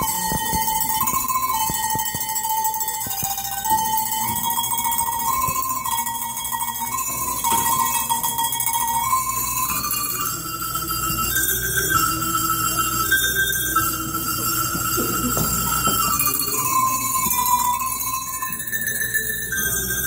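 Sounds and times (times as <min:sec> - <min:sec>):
cowbells playing a melody: 0:00.0 - 0:20.0.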